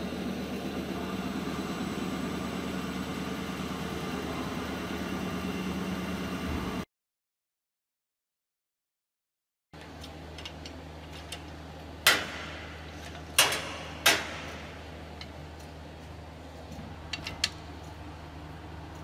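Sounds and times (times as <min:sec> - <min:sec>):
low machine hum: 0:00.0 - 0:06.9, 0:09.8 - 0:19.0.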